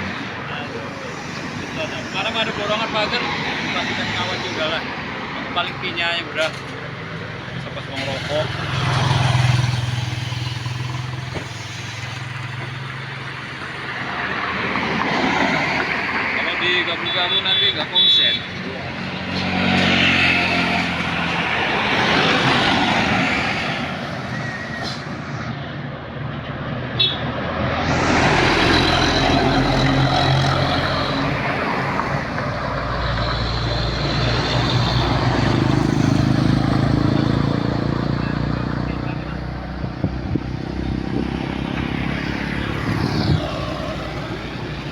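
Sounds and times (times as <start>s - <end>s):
vehicle engine humming: 0.0s - 44.9s.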